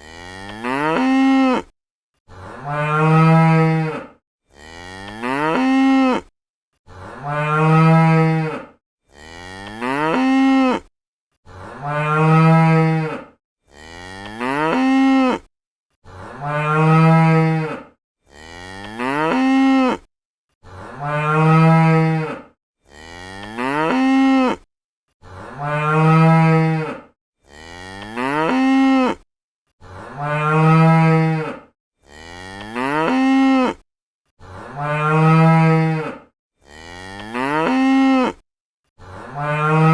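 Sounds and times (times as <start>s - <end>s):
cow mooing: 0.0s - 1.7s, 2.3s - 6.3s, 6.9s - 10.9s, 11.5s - 15.5s, 16.1s - 29.3s, 29.9s - 33.8s, 34.4s - 38.4s, 39.0s - 39.9s.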